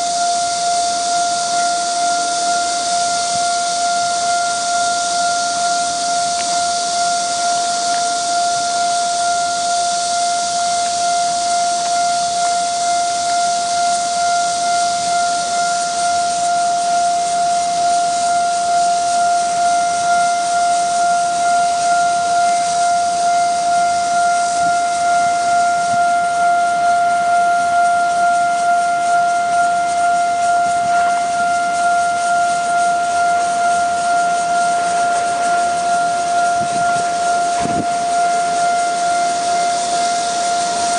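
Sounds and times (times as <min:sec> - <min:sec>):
steady high hiss: 0:00.0 - 0:40.9
level crossing warning bell: 0:01.1 - 0:40.9.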